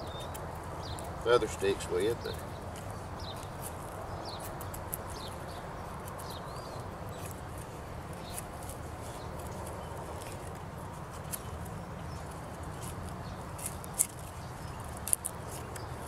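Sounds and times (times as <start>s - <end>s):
knife shaving wood: 0.0s - 16.0s.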